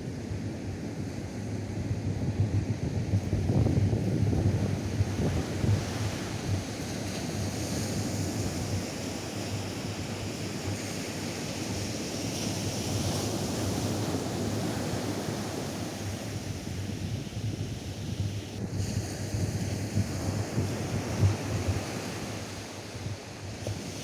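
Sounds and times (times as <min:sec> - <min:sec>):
wind rumbling on microphone: 0:00.0 - 0:24.0
waves breaking on beach: 0:03.9 - 0:24.0.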